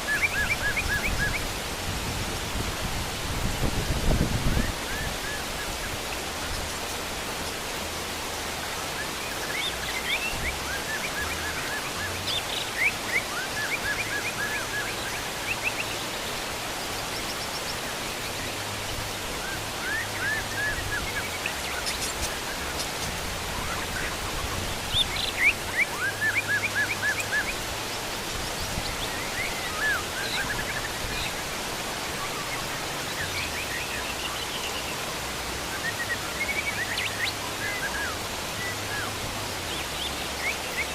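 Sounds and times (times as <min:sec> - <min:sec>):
birds chirping: 0:03.7 - 0:40.9.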